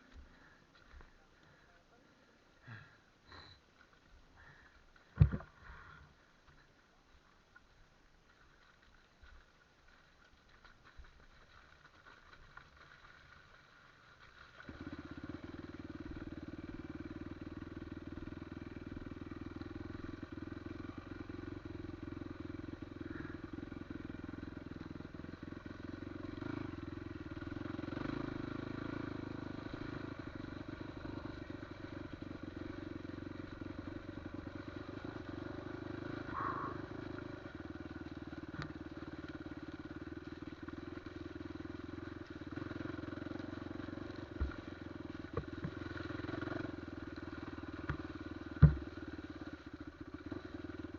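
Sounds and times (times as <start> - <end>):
off-road motorcycle engine: 0.0 - 50.9.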